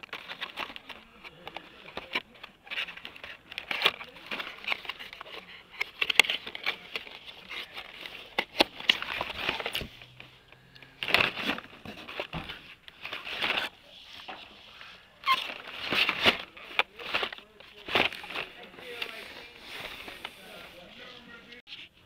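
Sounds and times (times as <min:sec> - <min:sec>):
plastic packaging rustling and clacking: 0:00.0 - 0:21.8.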